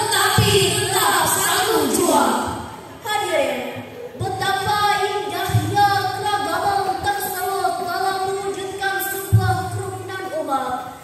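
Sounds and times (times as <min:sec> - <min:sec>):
girl chanting over loudspeaker: 0:00.0 - 0:11.0.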